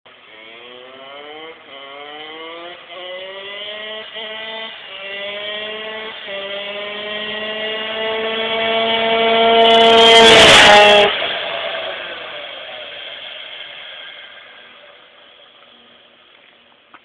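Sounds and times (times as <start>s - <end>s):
two-stroke engine accelerating: 0.1s - 16.9s.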